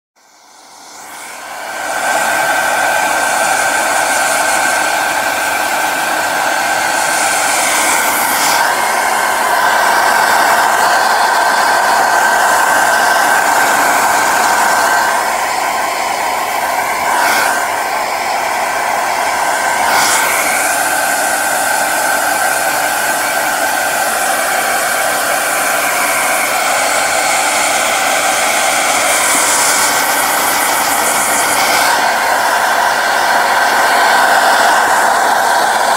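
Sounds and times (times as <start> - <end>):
hair dryer blowing: 0.2 - 35.9.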